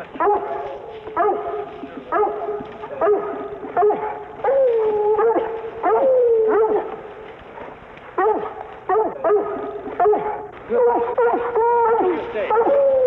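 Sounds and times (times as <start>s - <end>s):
hounds long baying: 0.0s - 13.0s
hounds yelping barks: 0.0s - 13.0s.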